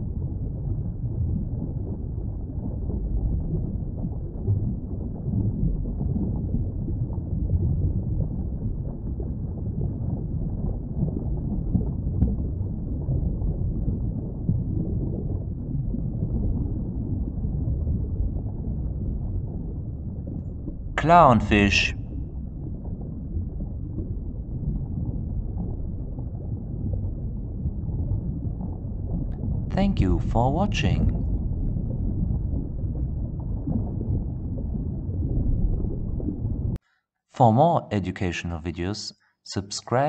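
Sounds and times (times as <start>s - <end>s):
underwater rumble and wash: 0.0s - 36.8s.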